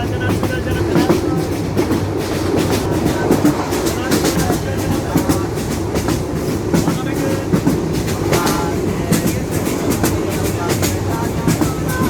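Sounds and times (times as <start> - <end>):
train rumbling on rails: 0.0 - 12.0
wheels clicking on rails: 0.0 - 12.0.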